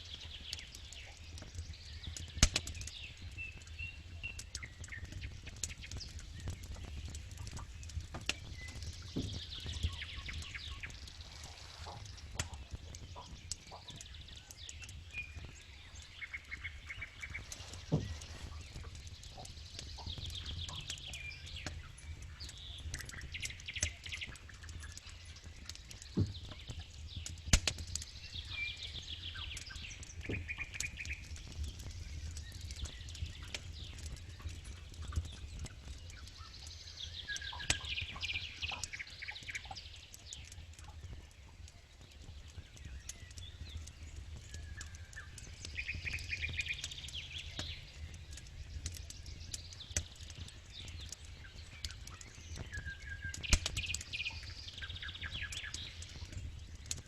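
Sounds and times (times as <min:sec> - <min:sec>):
birds singing trills: 0:00.0 - 0:57.0
campfire crackling and popping: 0:00.0 - 0:57.0.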